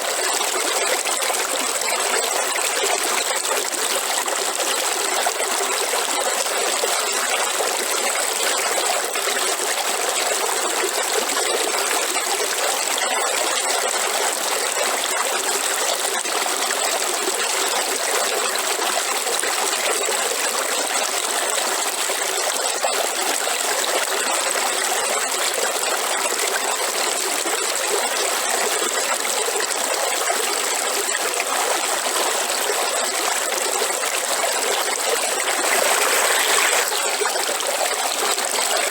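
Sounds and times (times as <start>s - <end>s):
river water over stones: 0.0s - 38.9s.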